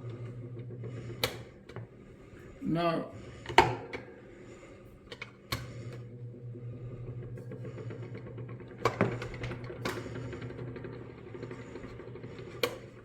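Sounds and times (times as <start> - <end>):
fan motor humming: 0.0 - 13.0.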